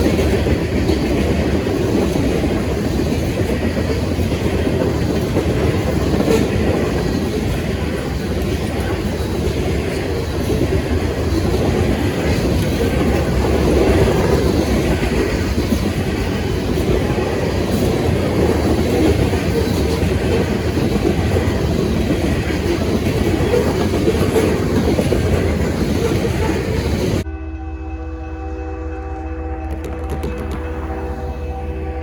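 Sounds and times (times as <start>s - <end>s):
wheels clacking over rail joints: 0.0s - 27.2s, 29.6s - 31.3s
freight train rumbling past: 0.0s - 32.0s.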